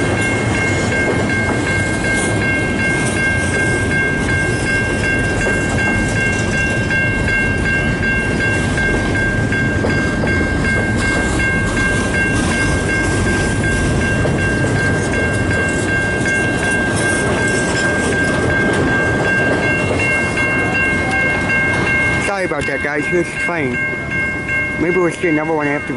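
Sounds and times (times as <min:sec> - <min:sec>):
crossing warning bell ringing: 0:00.0 - 0:25.9
freight train rumbling over rails: 0:00.0 - 0:25.9.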